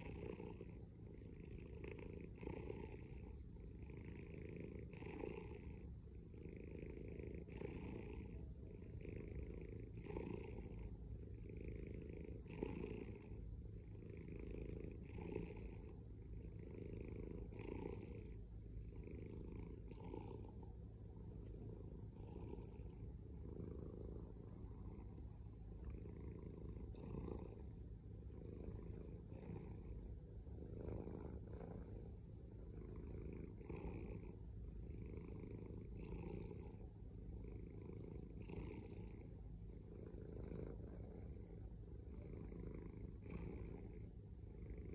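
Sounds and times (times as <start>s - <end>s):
cat purring: 0.0s - 44.9s.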